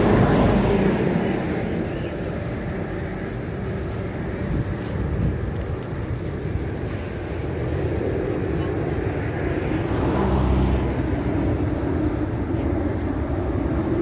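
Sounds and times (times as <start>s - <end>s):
heavy truck passing: 0.0s - 14.0s
road traffic noise: 0.0s - 14.0s.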